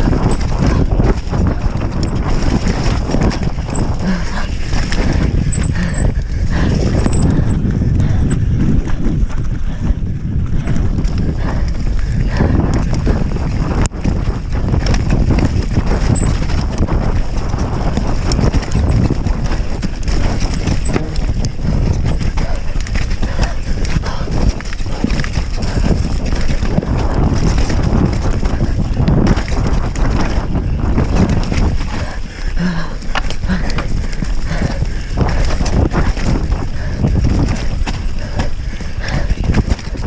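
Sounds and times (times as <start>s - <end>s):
bike frame and chain clattering: 0.0s - 9.0s, 10.6s - 32.4s, 33.0s - 40.0s
bike tyres rumbling over dirt: 0.0s - 40.0s.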